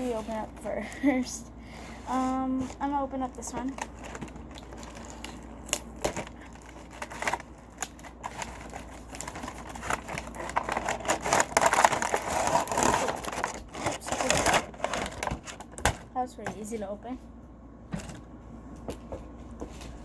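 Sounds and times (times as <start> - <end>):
packaging crinkling and rustling: 0.0 - 1.2, 1.9 - 16.8.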